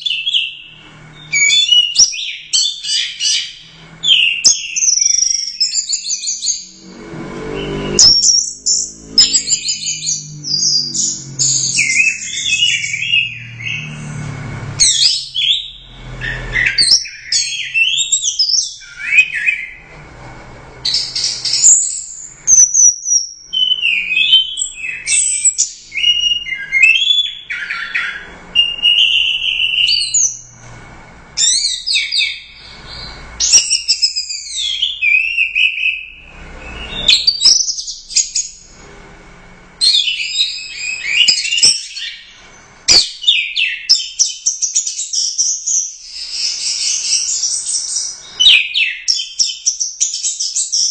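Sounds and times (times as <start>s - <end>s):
bird singing whistles and chirps: 0.0s - 6.9s, 7.5s - 14.2s, 14.8s - 19.9s, 20.8s - 30.6s, 31.4s - 38.6s, 39.8s - 50.9s.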